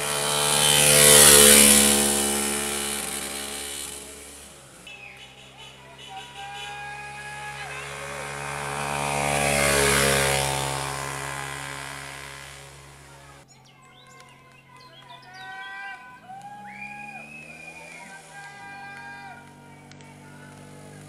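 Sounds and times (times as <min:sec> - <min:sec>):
motorcycle engine passing by: 0:00.0 - 0:13.5, 0:16.2 - 0:21.0.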